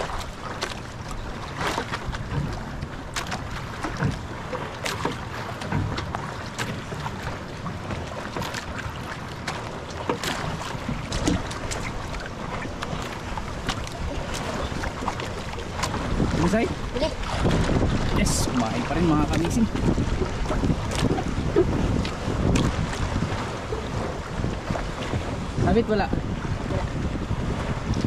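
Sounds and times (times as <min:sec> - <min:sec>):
water lapping against boat: 0:00.0 - 0:28.0
wind buffeting microphone: 0:00.0 - 0:28.0.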